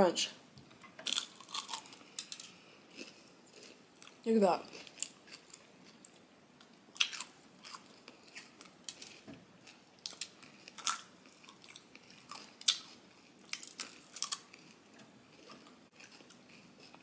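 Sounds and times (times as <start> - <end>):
crunchy bites and chewing: 1.0 - 6.2, 6.9 - 17.0.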